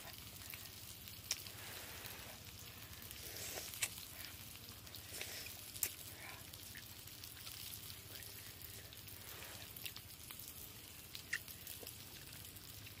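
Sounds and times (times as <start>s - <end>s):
low steady hiss: 0.0s - 13.0s
wet chewing and mouth clicks: 0.0s - 13.0s.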